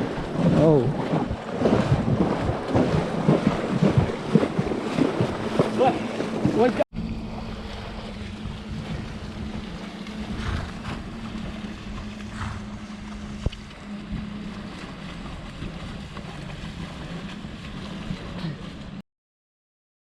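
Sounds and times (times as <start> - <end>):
wind on microphone: 0.0 - 6.8, 7.4 - 18.5
low motor hum: 0.0 - 19.0
sea surf: 0.0 - 19.0.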